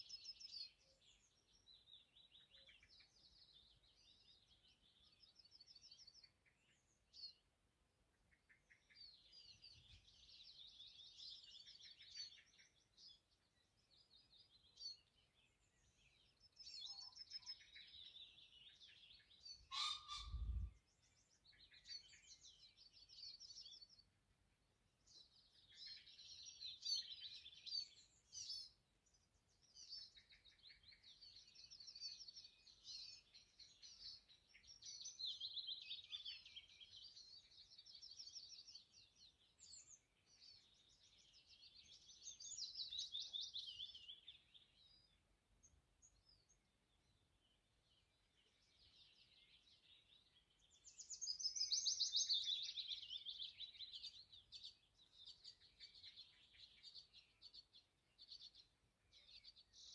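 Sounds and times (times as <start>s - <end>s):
faint songbirds trilling: 0.0s - 59.9s.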